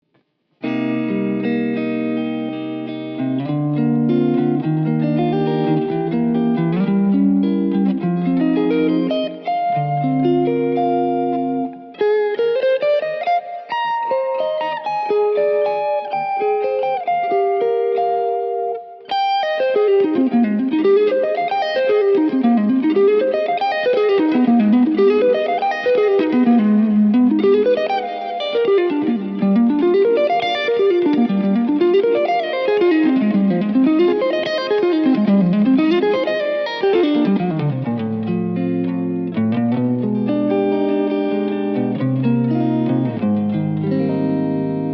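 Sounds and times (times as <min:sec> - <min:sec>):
solo electric guitar: 0:00.6 - 0:44.9.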